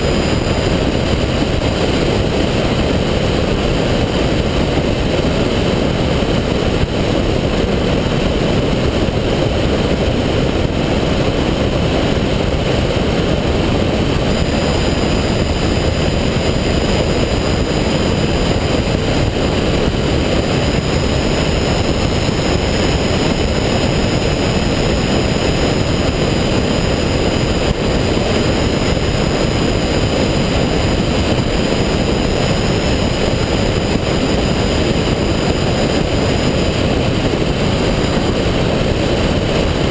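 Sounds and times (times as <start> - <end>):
airflow rushing over camera: 0.0 - 39.9
propeller aircraft engine: 0.0 - 39.9.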